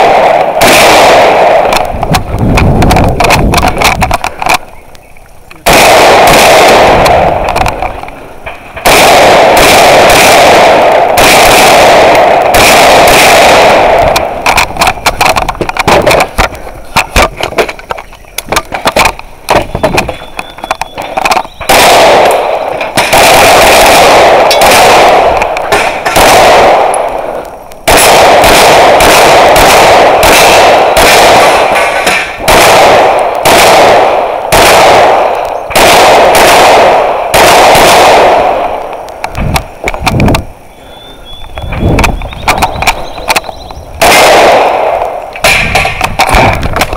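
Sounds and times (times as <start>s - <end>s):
rapid rifle and pistol gunfire: 0.0s - 4.7s, 5.6s - 40.5s, 41.8s - 46.9s.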